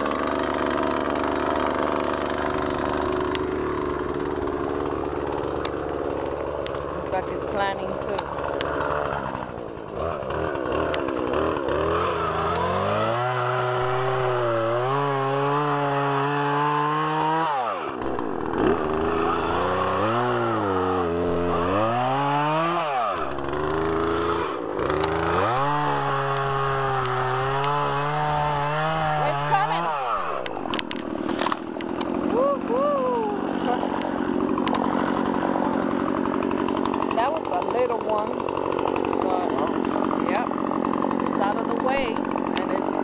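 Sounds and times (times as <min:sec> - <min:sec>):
chainsaw cutting tree: 0:00.0 - 0:43.0.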